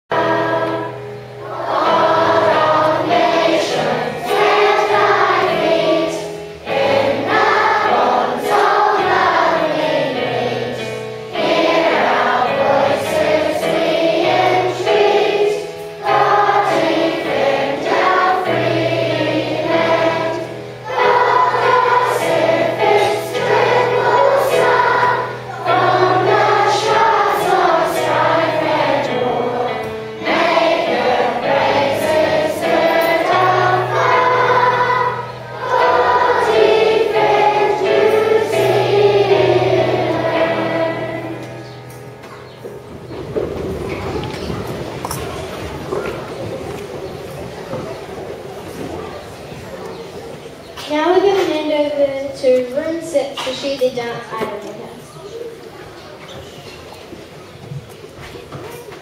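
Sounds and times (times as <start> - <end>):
musical accompaniment: 0.1 - 48.0
children's choir singing: 0.1 - 59.0.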